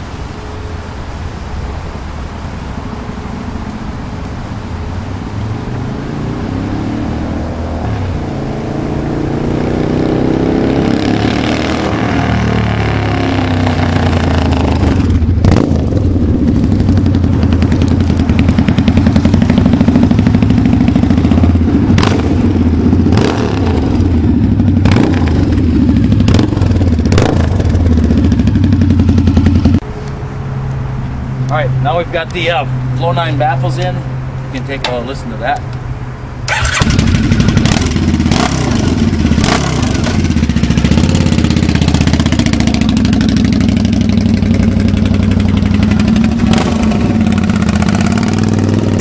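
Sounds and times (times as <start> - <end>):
motorcycle engine rumbling: 0.0 - 49.0
exhaust cracks: 6.4 - 29.8, 31.5 - 49.0.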